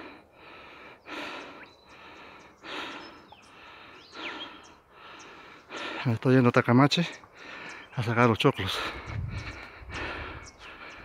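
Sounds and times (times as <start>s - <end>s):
person breathing hard: 0.0s - 6.1s, 7.3s - 7.9s, 8.8s - 11.0s.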